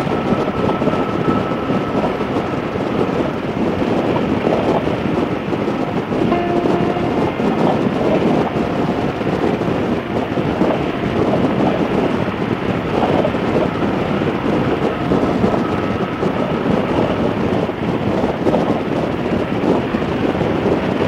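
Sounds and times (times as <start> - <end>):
road noise: 0.0 - 21.0
wind buffeting microphone: 0.0 - 21.0.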